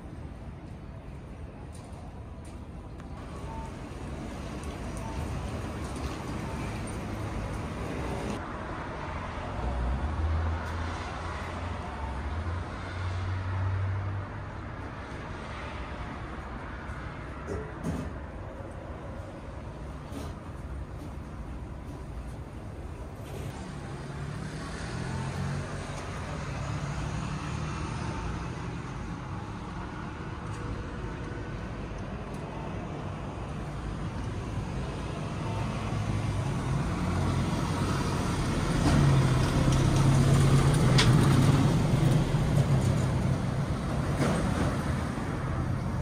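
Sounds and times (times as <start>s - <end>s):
street noise: 0.0s - 46.0s.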